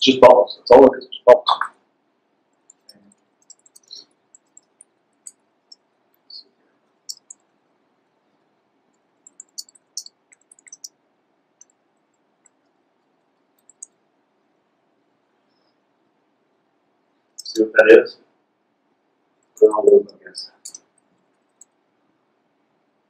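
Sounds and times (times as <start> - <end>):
faint room hum: 0.0 - 23.0.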